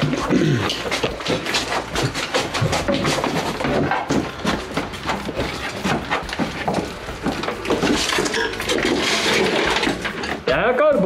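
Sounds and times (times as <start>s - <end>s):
irregular knocks and clatters: 0.0s - 11.0s.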